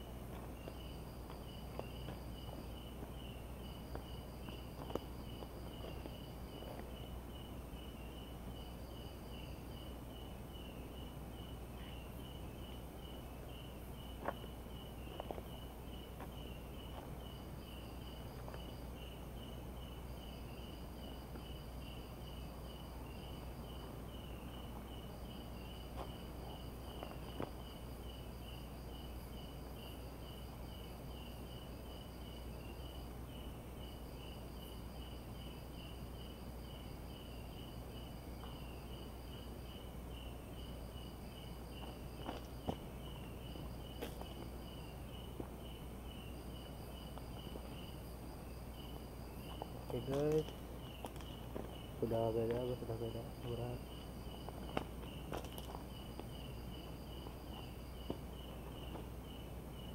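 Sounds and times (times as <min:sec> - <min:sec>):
constant high whine: 0:00.0 - 0:59.9
cricket chirping: 0:00.0 - 0:59.9.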